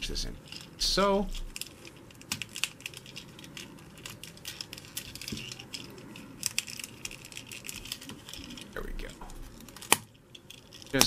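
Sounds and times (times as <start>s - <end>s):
plastic toy parts clicking: 1.4s - 11.0s.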